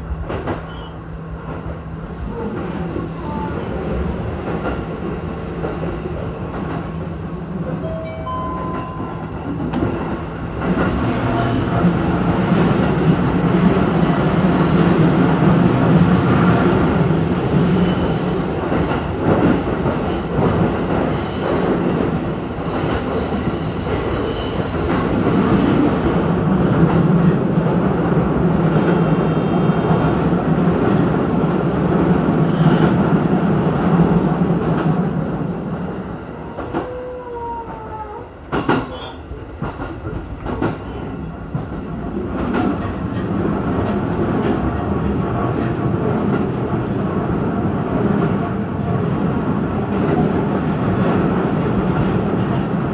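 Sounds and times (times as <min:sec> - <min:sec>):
electric train rumbling on track: 0:00.0 - 0:52.9.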